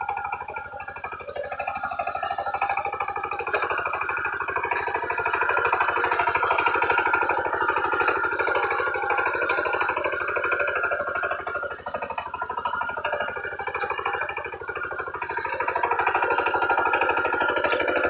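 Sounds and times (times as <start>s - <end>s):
diesel tiller engine chugging: 0.0s - 18.0s
tines churning wet mud: 0.2s - 18.0s.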